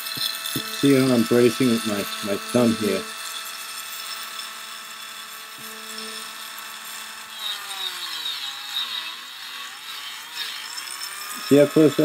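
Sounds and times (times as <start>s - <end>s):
rotary tool wire brush whining: 0.0s - 12.0s.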